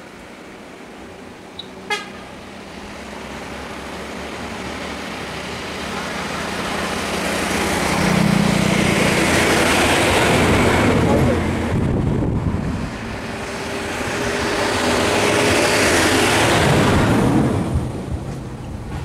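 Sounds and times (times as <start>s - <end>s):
bus diesel engine passing: 0.0s - 18.9s.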